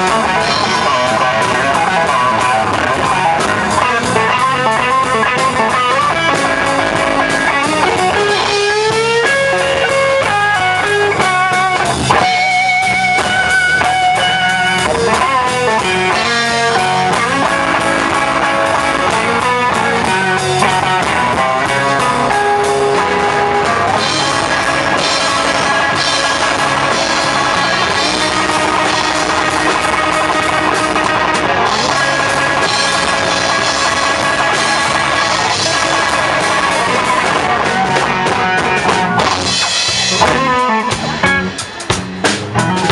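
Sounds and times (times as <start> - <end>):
drum kit: 0.0 - 42.9
electric guitar lead lines: 0.0 - 42.9.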